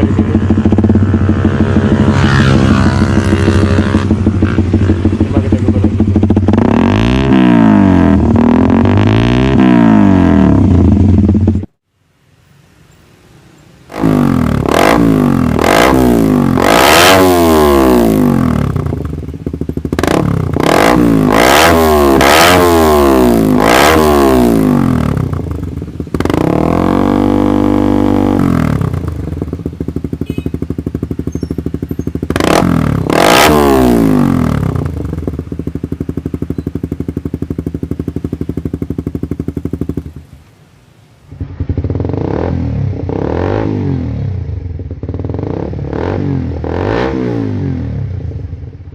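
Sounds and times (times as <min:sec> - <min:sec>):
motorcycle engine revving: 0:00.0 - 0:11.8, 0:13.8 - 0:40.4, 0:41.3 - 0:48.9.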